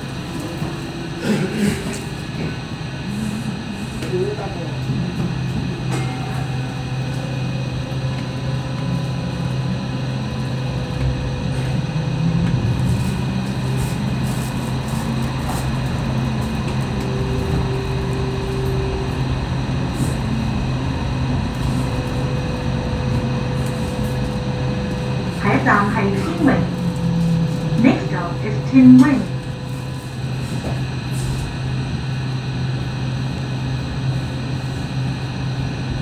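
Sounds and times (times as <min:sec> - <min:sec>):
tram running on track: 0:00.0 - 0:36.0
faint high whine: 0:05.6 - 0:36.0.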